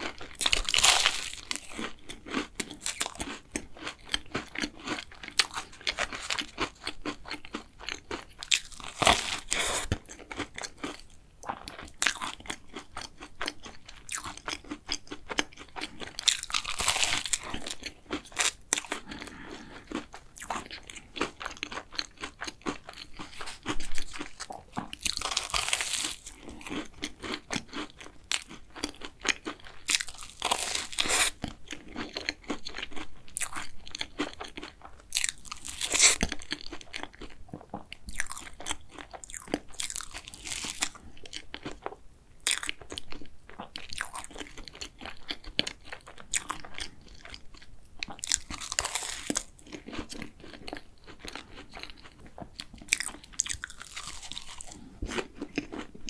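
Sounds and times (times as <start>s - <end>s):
crunchy pastry being chewed: 0.0s - 56.0s.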